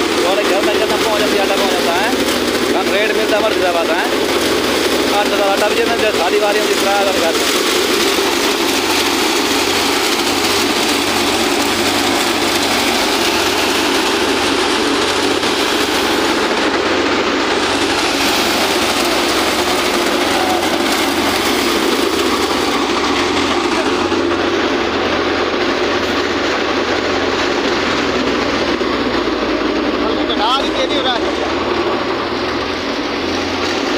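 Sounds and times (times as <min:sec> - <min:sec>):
thresher running: 0:00.0 - 0:33.9.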